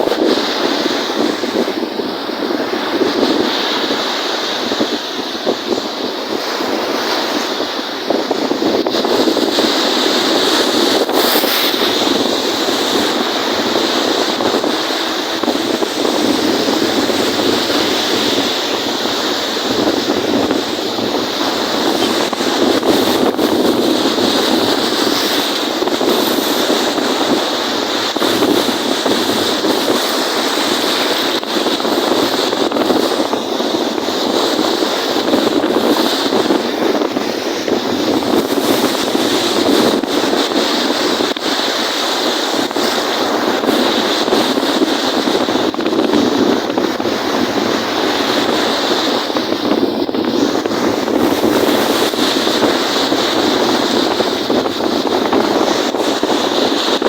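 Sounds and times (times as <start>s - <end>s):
choppy lake waves splashing: 0.0s - 57.0s.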